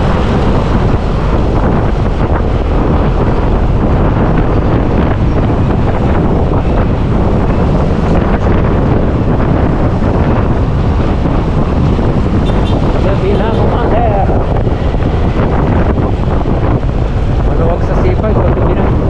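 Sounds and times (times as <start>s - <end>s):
low road rumble: 0.0s - 19.0s
wind buffeting microphone: 0.0s - 19.0s.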